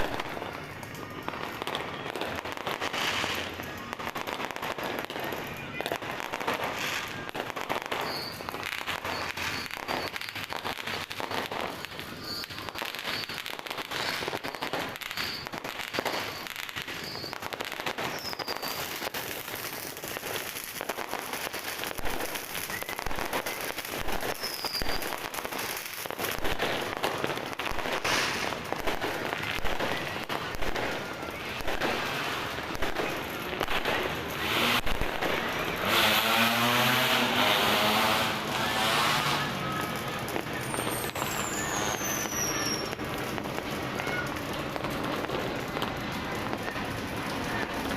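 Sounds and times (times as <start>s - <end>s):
fireworks crackling and banging: 0.0s - 47.9s
high firework whistles: 0.0s - 47.9s.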